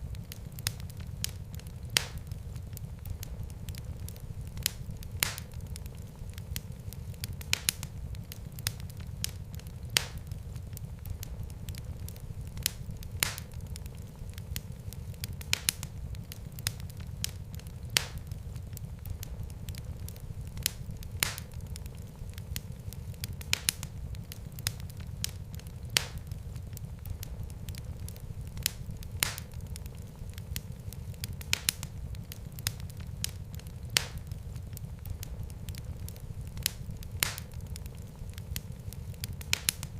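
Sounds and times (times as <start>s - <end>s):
fire popping and snapping: 0.0s - 39.9s
low rumble of flames: 0.0s - 39.9s.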